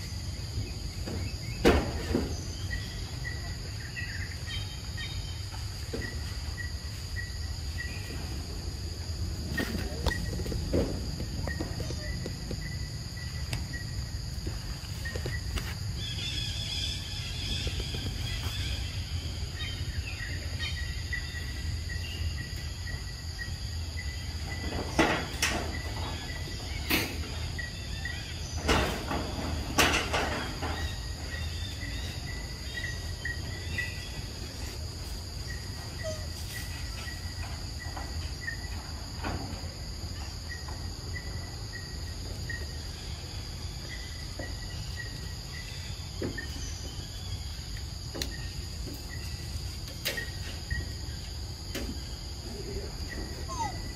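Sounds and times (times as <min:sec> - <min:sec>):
high insect drone: 0:00.0 - 0:53.9.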